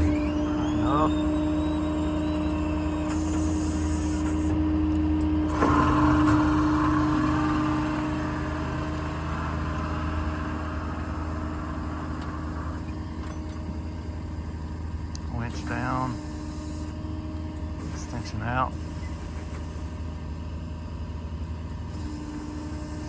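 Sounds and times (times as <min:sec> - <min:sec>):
crane hydraulics working: 0:00.0 - 0:23.0
diesel truck engine running: 0:00.0 - 0:23.0.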